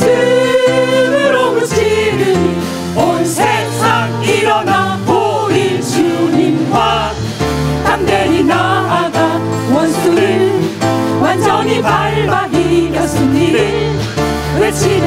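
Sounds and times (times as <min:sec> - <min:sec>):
amplified instrumental backing: 0:00.0 - 0:15.0
group singing worship song: 0:00.0 - 0:15.0.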